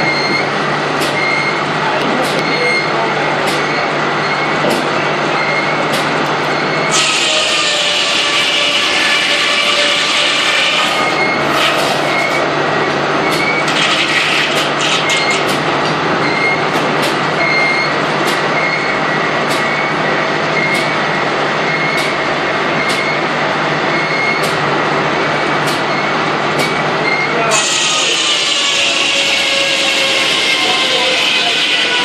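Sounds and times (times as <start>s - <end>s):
steam sawmill machinery running: 3.0s - 32.0s.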